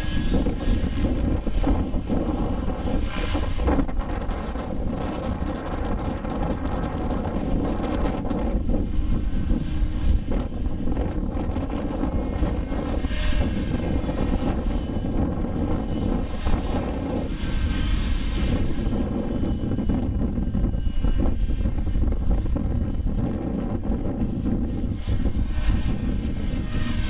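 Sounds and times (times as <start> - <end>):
model helicopter rotor and motor whine: 0.0 - 27.0
wind rumbling on microphone: 0.0 - 27.0.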